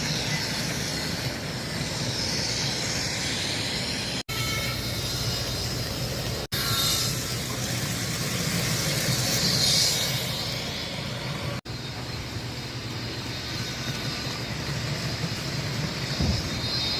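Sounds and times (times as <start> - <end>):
gas turbine whine and hiss: 0.0 - 16.9.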